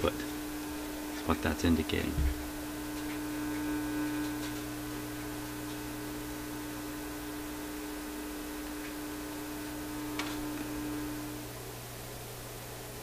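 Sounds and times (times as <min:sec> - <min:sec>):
amplifier hum through speaker: 0:00.0 - 0:13.0.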